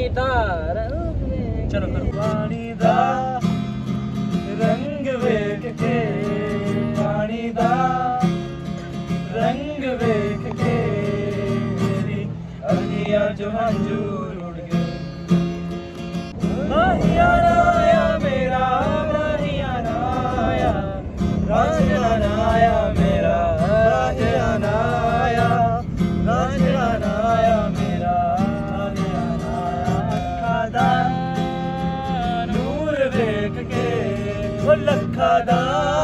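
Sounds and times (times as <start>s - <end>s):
acoustic guitar strumming: 2.0s - 36.0s
men singing together: 2.1s - 15.0s, 16.4s - 36.0s.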